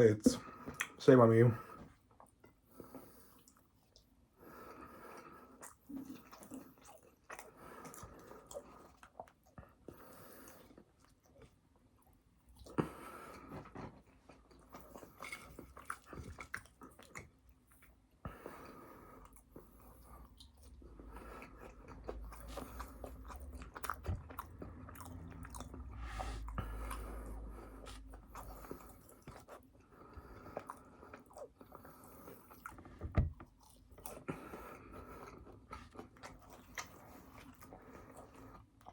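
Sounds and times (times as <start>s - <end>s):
person chewing food: 0.4s - 1.0s, 1.9s - 38.9s.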